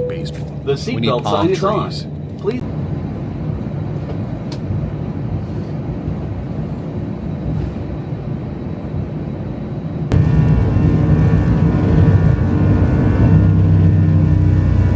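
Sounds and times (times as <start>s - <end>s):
airliner cabin rumble: 0.0s - 14.9s.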